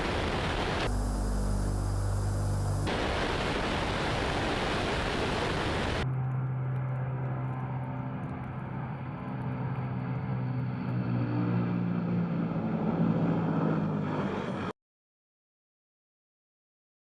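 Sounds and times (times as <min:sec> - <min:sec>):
turboprop engines droning: 0:00.0 - 0:14.7.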